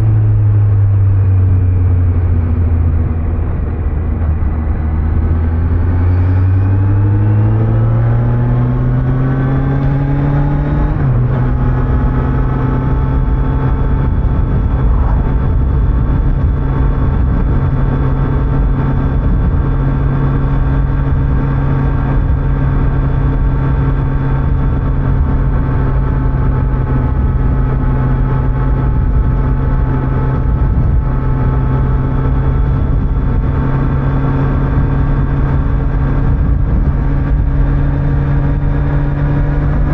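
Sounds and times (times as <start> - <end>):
motorcycle engine accelerating: 0.0 - 39.9
road and wind rumble: 0.0 - 39.9.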